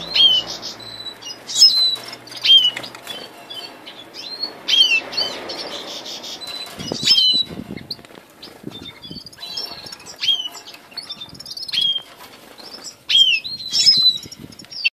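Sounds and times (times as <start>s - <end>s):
finches chirping: 0.0s - 14.9s.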